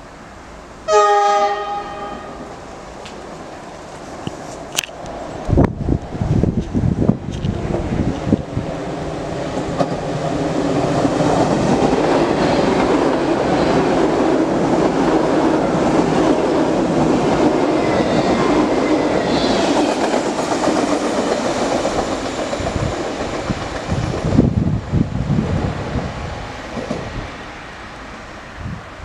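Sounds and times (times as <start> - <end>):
train wheels rushing on rails: 1.5 - 29.0.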